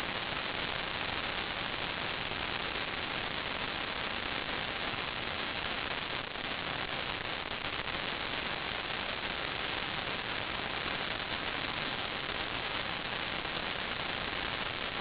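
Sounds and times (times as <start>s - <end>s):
static hiss: 0.0s - 15.0s.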